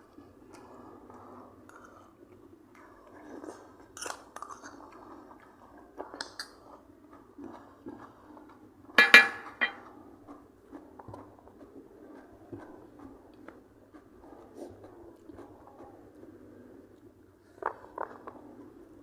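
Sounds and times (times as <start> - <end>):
soft chewing: 0.0 - 9.0, 9.8 - 19.0.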